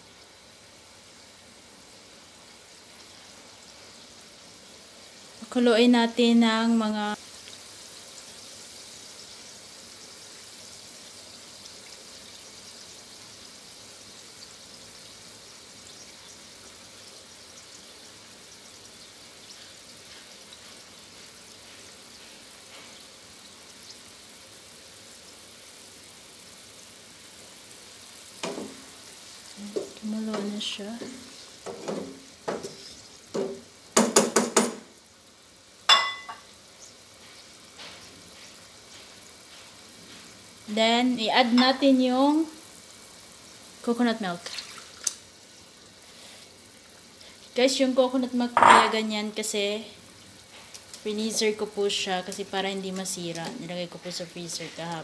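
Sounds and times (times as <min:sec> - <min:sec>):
sauce simmering in a frying pan: 0:00.0 - 0:55.0.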